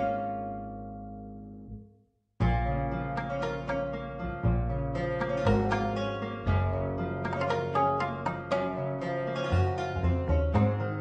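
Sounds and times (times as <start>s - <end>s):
plucked string music: 0.0s - 1.8s, 2.4s - 11.0s
low bass line: 0.0s - 11.0s.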